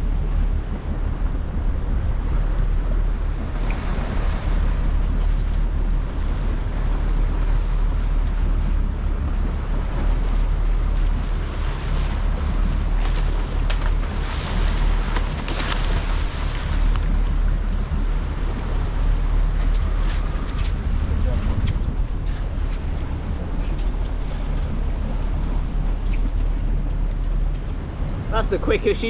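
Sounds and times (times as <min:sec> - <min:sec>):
sea noise: 0:00.0 - 0:29.0
steady low rumble: 0:00.0 - 0:29.0
wind buffeting microphone: 0:00.0 - 0:29.0.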